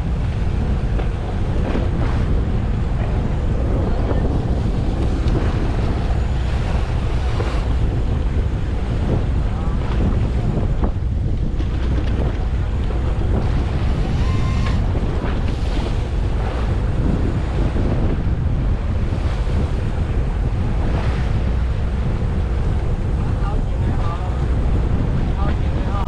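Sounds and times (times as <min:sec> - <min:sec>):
sea washing: 0:00.0 - 0:26.0
wind buffeting microphone: 0:00.0 - 0:26.0.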